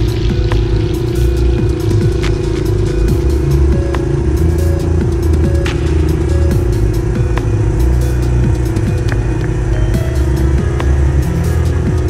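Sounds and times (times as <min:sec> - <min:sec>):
bass line: 0:00.0 - 0:12.0
held synth tone: 0:00.0 - 0:12.0.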